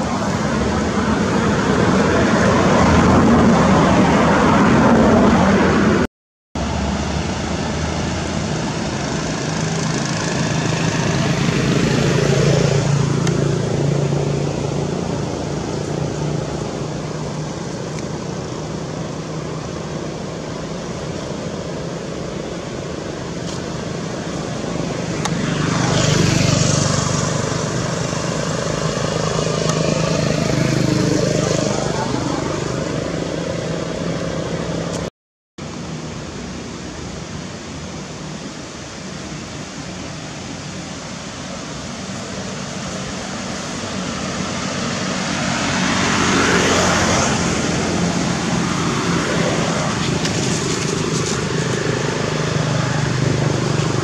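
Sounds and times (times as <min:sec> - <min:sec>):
motor vehicle engines: 0:00.0 - 0:54.0.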